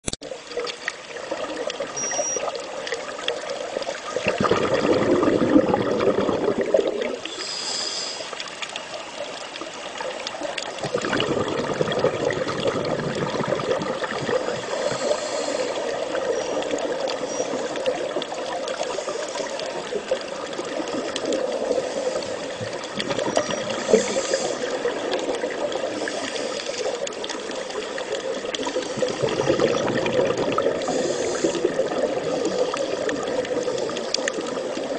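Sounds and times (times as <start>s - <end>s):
water bubbling and gushing: 0.3s - 7.4s, 8.5s - 34.9s.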